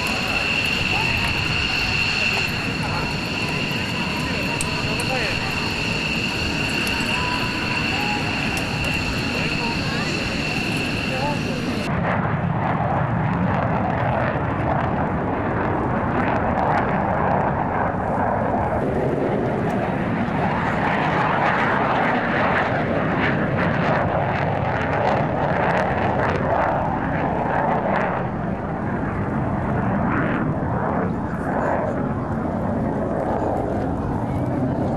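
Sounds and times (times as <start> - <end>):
jet fighters flying past: 0.0 - 34.9.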